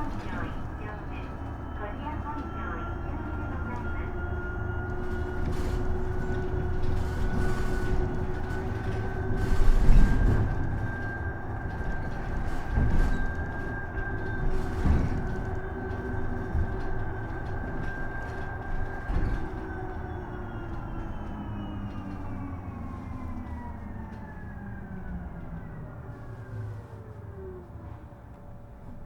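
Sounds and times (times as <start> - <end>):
low road rumble: 0.0 - 29.0.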